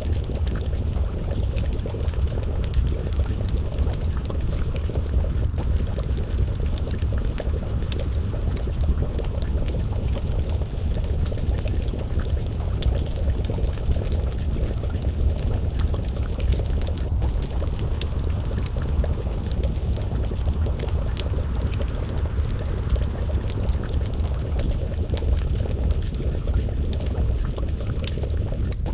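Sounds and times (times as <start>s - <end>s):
pot of stew bubbling: 0.0s - 28.9s
wood fire crackling and popping: 0.0s - 28.9s.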